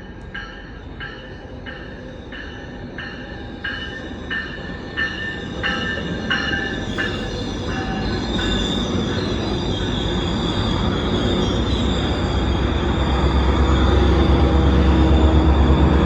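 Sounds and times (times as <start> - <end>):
railroad crossing bell ringing: 0.0 - 16.0
train approaching with deep rumble: 0.0 - 16.0.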